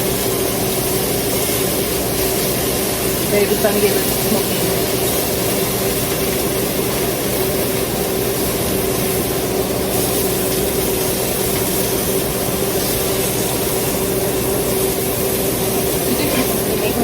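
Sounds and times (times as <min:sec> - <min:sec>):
kitchen fan running: 0:00.0 - 0:17.0.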